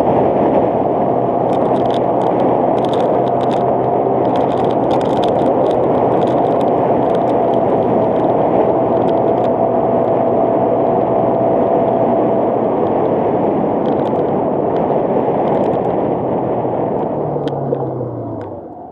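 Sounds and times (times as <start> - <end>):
motorcycle engine hum: 0.0 - 18.9
wind rushing over microphone: 0.0 - 18.9
light ticks from road: 0.1 - 18.9.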